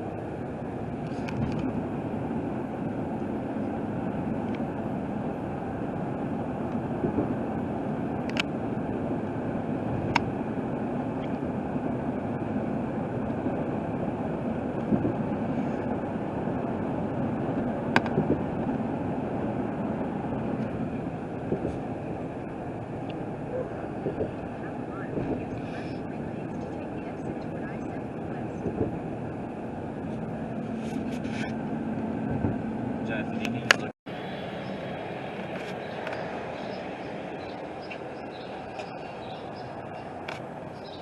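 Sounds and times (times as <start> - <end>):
road and engine noise in cabin: 0.0 - 41.0.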